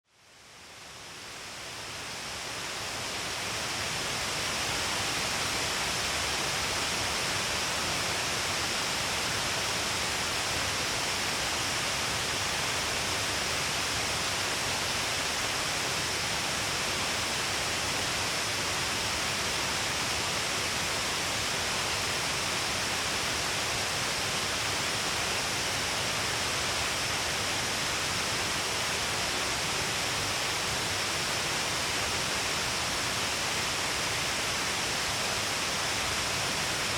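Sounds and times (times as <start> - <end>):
waterfall rushing: 2.8 - 36.9.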